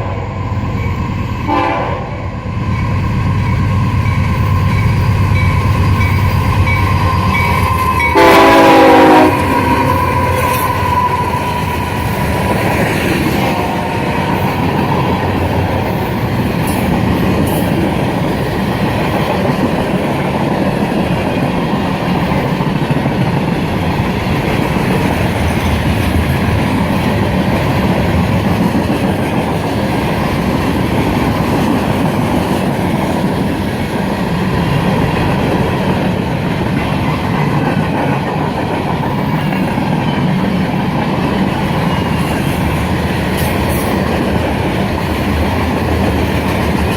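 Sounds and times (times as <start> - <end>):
freight train cars rolling: 0.0 - 46.9.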